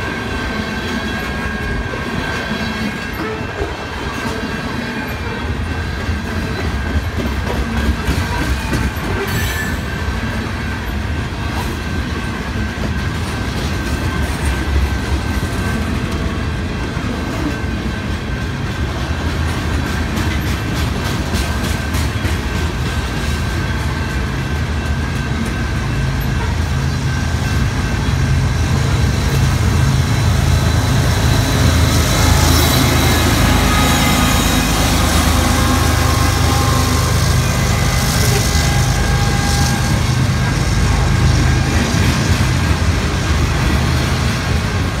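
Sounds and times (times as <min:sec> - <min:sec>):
diesel locomotive droning: 0:00.0 - 0:45.0.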